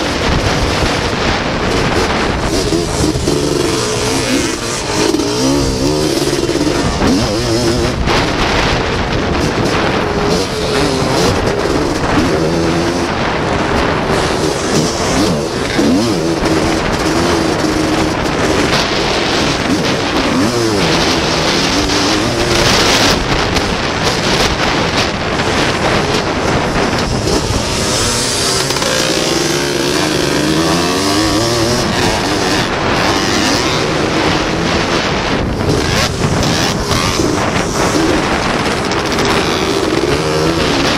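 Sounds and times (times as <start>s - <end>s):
three-wheeler engine revving: 0.0s - 40.9s
wind rushing on microphone: 0.0s - 40.9s.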